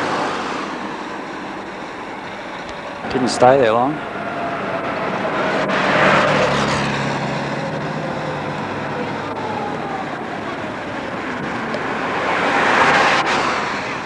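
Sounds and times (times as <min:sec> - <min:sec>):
vehicles passing close by: 0:00.0 - 0:14.0.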